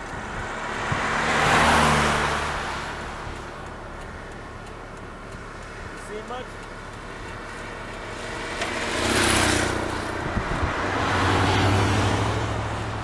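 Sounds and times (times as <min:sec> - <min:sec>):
vehicle engine and tyre noise: 0:00.0 - 0:13.0.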